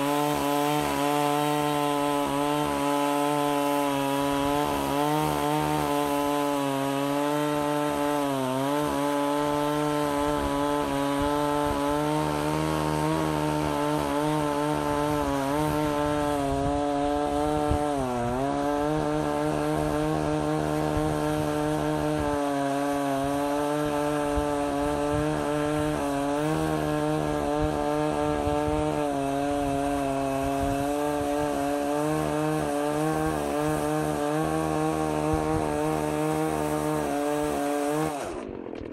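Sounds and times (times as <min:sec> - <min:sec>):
chainsaw cutting tree: 0:00.0 - 0:38.9.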